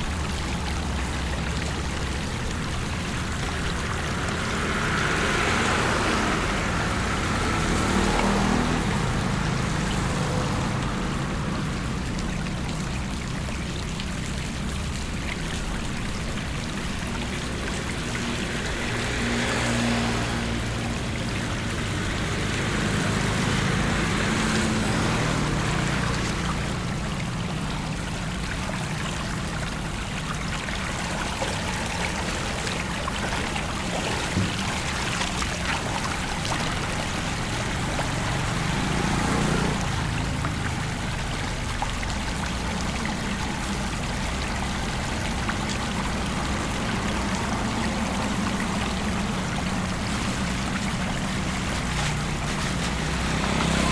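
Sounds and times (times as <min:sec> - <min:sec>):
floodwater rushing: 0:00.0 - 0:53.9
low engine hum: 0:00.0 - 0:53.9
water splashes: 0:00.0 - 0:53.9.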